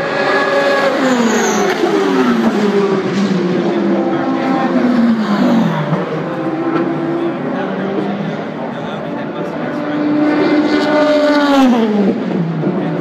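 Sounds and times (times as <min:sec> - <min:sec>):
race cars passing: 0:00.0 - 0:13.0.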